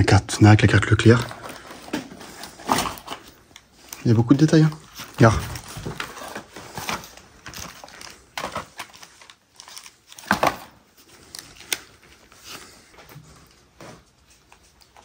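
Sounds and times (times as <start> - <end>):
paper rustling and crinkling: 1.0 - 15.0.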